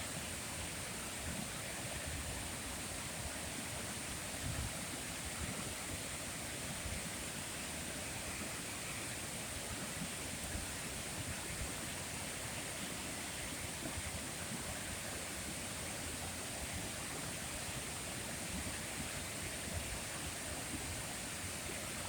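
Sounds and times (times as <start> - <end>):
continuous rushing hiss: 0.0 - 22.0.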